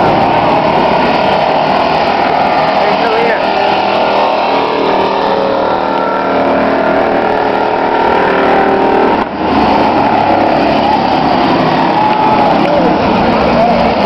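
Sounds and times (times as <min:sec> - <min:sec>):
truck engines racing: 0:00.0 - 0:14.0.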